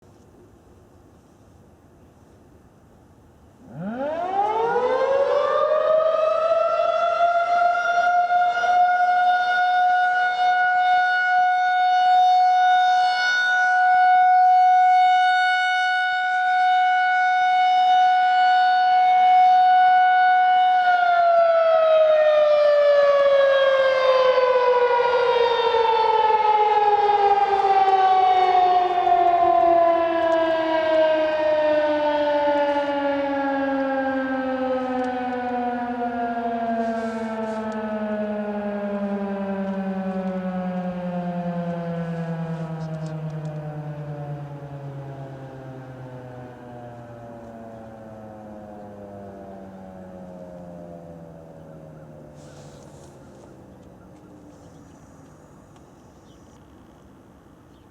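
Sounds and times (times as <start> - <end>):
warning siren: 3.6 - 57.4.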